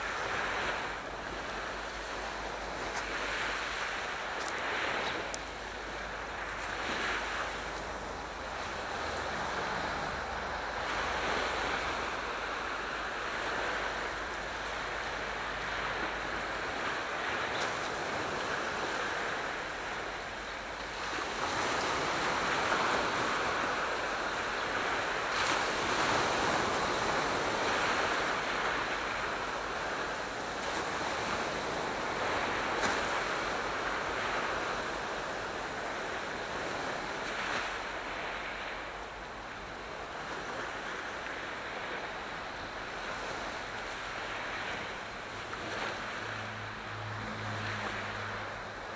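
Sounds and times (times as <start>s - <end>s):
sea waves washing in: 0.0s - 48.9s.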